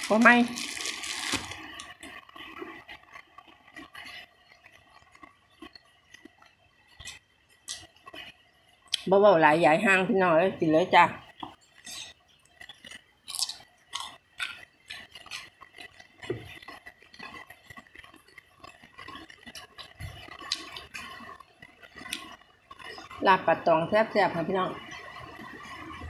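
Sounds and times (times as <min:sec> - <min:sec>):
chewing food: 0:00.0 - 0:09.1, 0:11.2 - 0:26.0.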